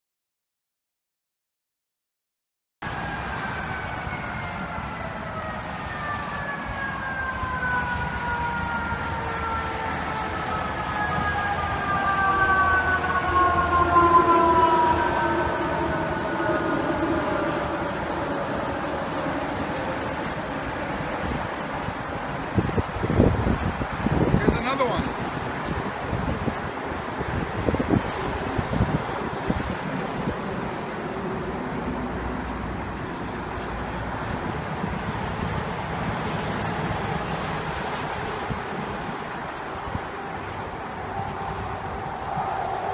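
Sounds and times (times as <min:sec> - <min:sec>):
engine and road rumble: 0:02.8 - 0:42.9
fire truck siren: 0:02.8 - 0:42.9.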